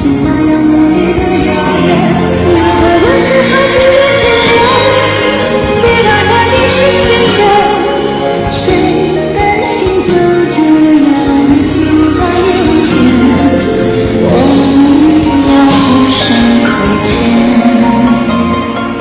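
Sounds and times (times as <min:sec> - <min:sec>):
instrumental pop ballad: 0:00.0 - 0:19.0.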